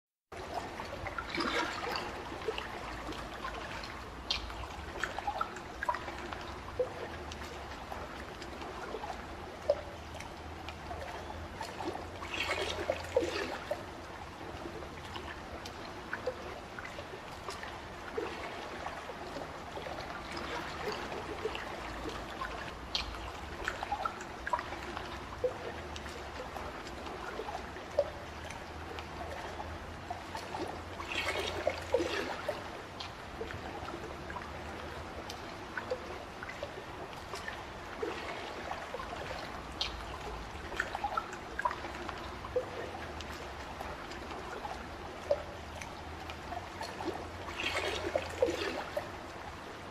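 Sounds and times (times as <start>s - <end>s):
water drips and plops: 0.3s - 49.9s
water trickling and splashing: 0.3s - 49.9s.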